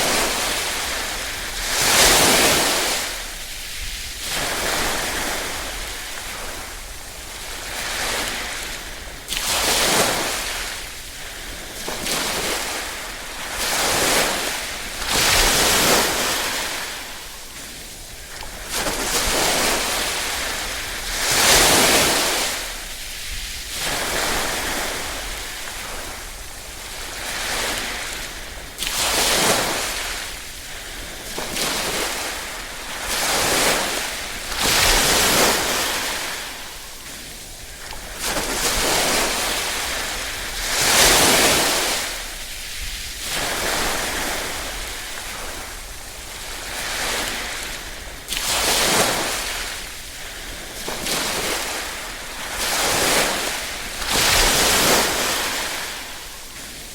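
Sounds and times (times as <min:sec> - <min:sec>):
small waves lapping on shore: 0:00.0 - 0:56.9.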